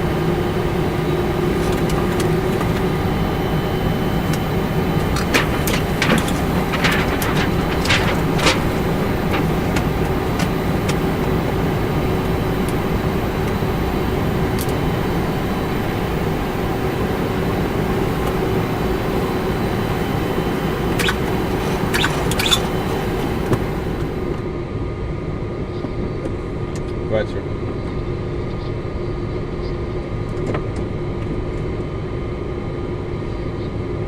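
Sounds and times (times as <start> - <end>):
cockpit hum: 0.0 - 34.0.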